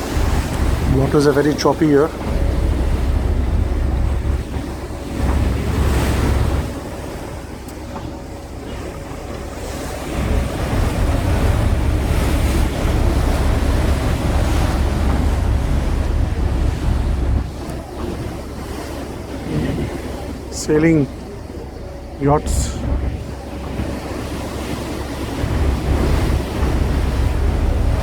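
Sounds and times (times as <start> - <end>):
rush of choppy water: 0.0 - 28.0
wind buffeting microphone: 0.0 - 28.0.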